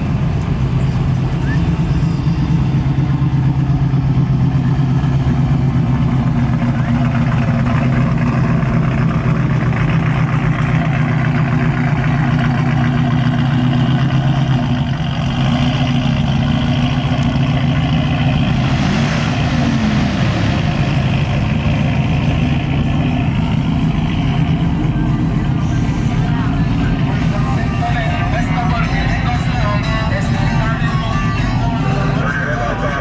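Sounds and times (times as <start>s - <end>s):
truck engine running: 0.0s - 33.0s.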